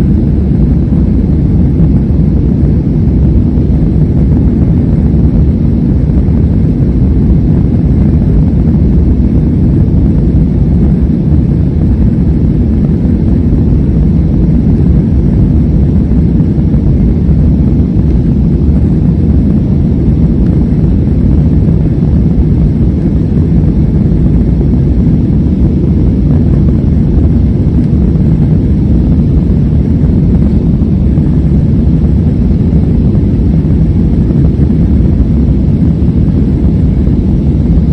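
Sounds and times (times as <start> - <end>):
jet engines low rumble: 0.0 - 37.9.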